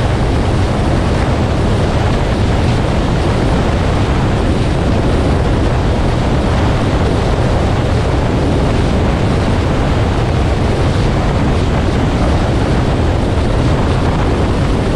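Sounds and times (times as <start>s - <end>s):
car road and wind noise: 0.0s - 14.9s.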